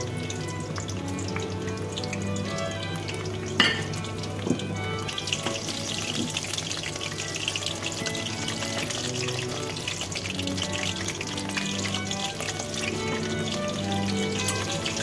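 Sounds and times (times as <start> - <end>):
food sizzling in deep-frying oil: 0.0 - 15.0.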